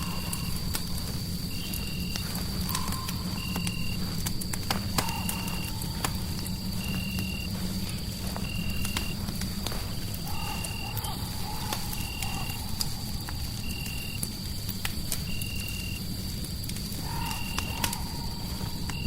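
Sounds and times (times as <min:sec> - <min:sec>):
fireplace crackling: 0:00.0 - 0:19.0.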